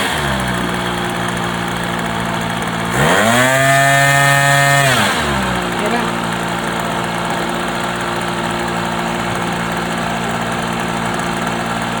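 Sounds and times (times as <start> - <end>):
small model engine idling: 0.0 - 12.0.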